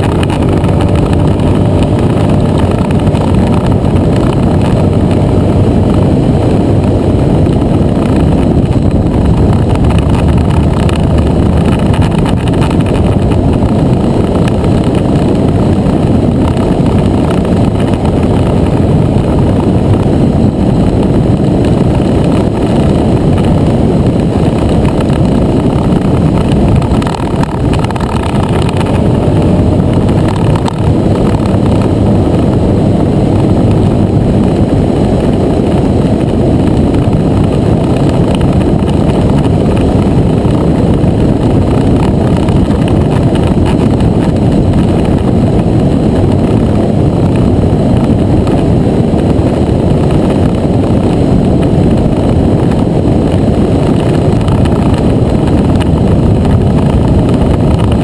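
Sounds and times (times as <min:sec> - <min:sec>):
scooter engine drone: 0:00.0 - 0:58.0
wind rush over microphone: 0:00.0 - 0:58.0.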